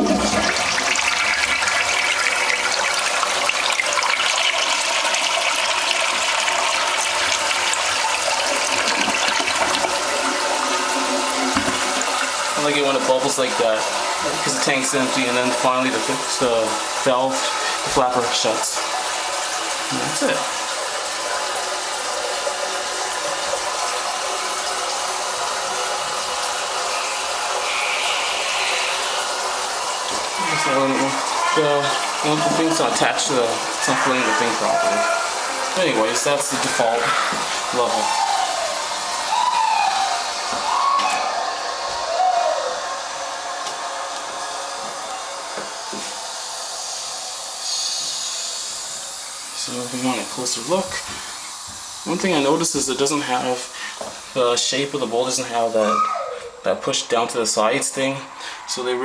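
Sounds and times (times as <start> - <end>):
toilet flushing: 0.0 - 59.0.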